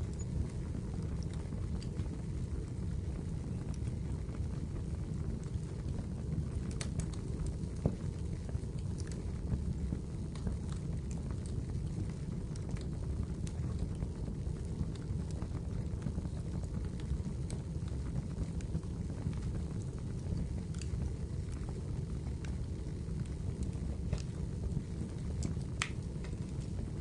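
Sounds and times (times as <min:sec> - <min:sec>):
fire crackling and popping: 0:00.0 - 0:27.0
fire rumbling: 0:00.0 - 0:27.0.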